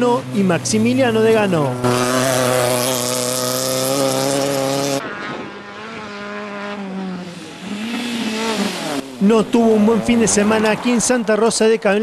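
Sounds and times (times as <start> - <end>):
quieter rally car engine: 0.0 - 12.0
rally car engine at high revs: 0.2 - 11.0.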